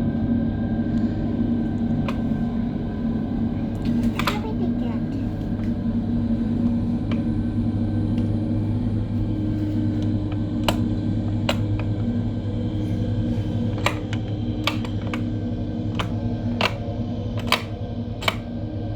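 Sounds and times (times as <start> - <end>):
heavy machinery engines droning: 0.0 - 18.9.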